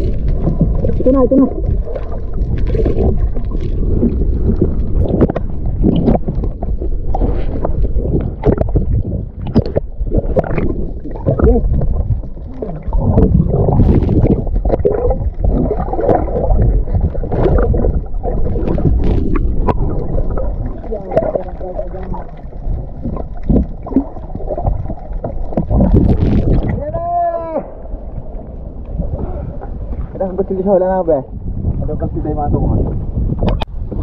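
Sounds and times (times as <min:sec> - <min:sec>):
muffled underwater churning rumble: 0:00.0 - 0:34.0.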